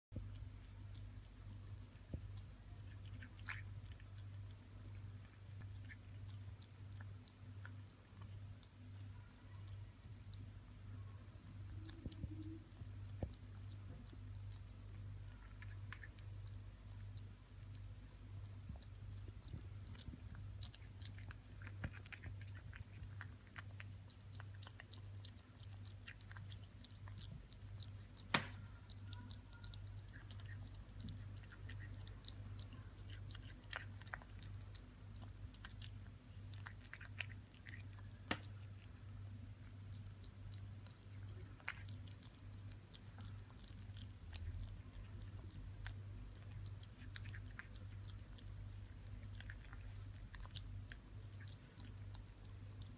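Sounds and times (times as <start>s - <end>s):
steady low hum: 0.0s - 52.9s
kitten chewing and licking: 0.1s - 52.9s.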